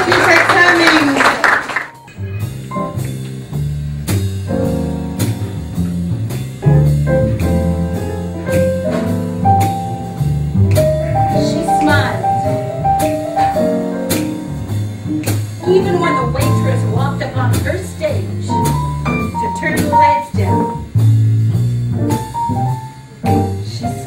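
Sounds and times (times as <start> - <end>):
drums: 0.0 - 24.0
piano: 0.0 - 24.0
bass line: 2.0 - 24.0.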